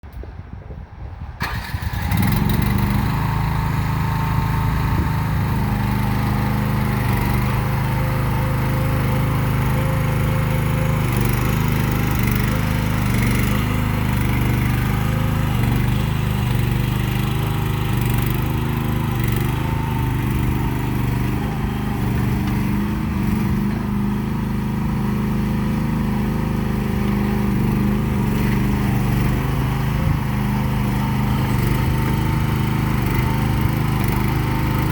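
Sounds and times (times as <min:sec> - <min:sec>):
excavator engine starting and running: 0:01.2 - 0:34.9.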